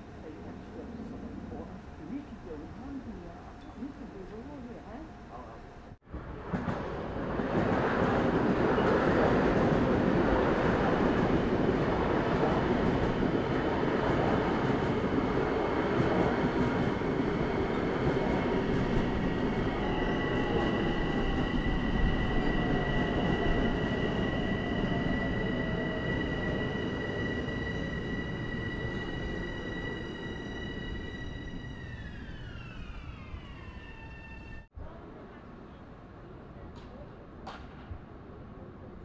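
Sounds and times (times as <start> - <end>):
train rumbling on rails: 0.0 - 36.2.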